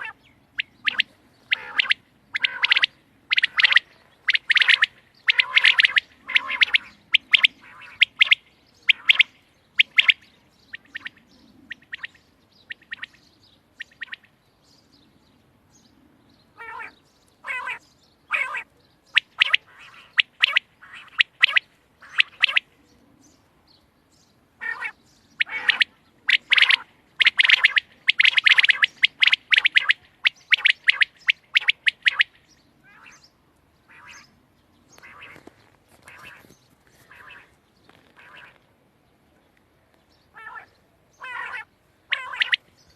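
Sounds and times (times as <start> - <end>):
quail calling: 0.0 - 14.3, 16.6 - 23.0, 24.6 - 33.3, 33.9 - 38.7, 40.3 - 42.9.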